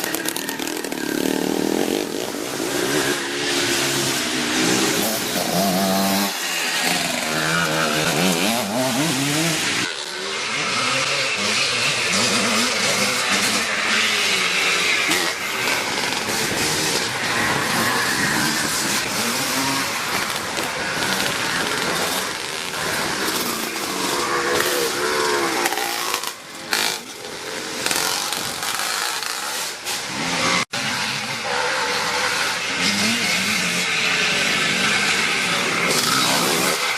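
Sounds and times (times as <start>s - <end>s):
motocross motorcycles revving: 0.0s - 36.9s.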